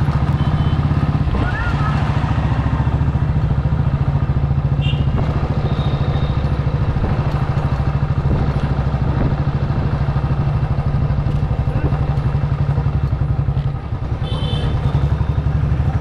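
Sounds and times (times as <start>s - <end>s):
small motorbike engine running: 0.0s - 16.0s.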